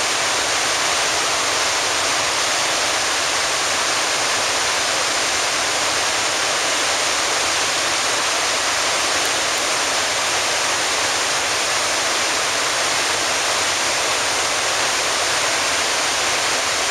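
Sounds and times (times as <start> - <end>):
waterfall crashing down: 0.0 - 16.9.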